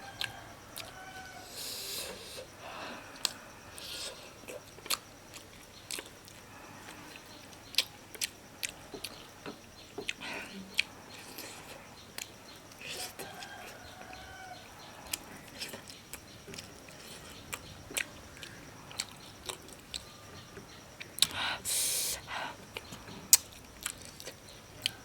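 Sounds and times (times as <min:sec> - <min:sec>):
person chewing crunchy food: 0:00.0 - 0:21.4, 0:22.6 - 0:25.0.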